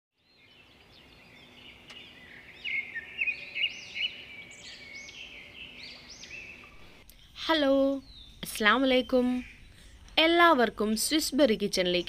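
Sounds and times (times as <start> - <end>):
birds chirping and twittering: 0.2 - 12.0.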